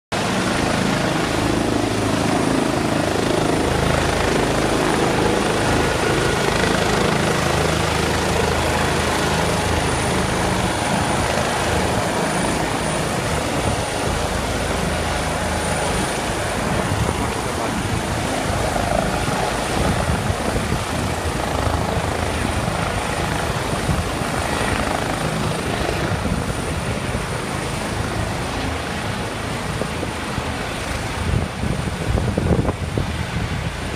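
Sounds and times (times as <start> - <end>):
helicopter rotor and engine: 0.1 - 33.9.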